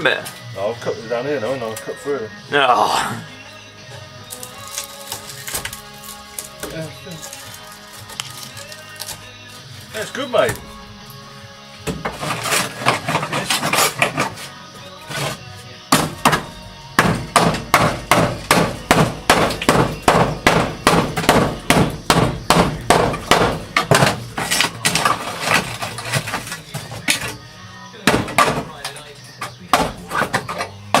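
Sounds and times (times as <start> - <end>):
background music: 0.0 - 31.0.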